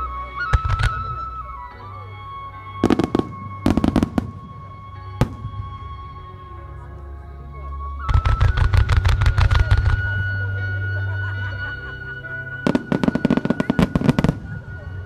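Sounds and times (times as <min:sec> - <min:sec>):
music with long held note: 0:00.0 - 0:15.0
fireworks crackling: 0:00.1 - 0:06.5, 0:08.0 - 0:11.6, 0:12.4 - 0:15.0.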